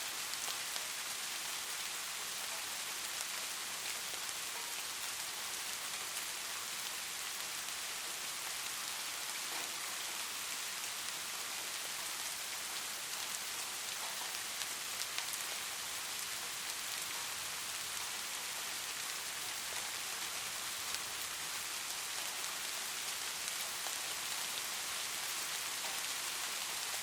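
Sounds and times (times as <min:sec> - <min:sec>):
light rain hiss: 0:00.0 - 0:27.0
soft raindrop ticks: 0:00.3 - 0:27.0.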